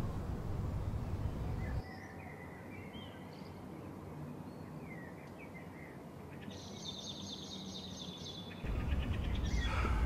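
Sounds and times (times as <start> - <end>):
birds chirping: 0.0 - 3.6, 4.4 - 10.0.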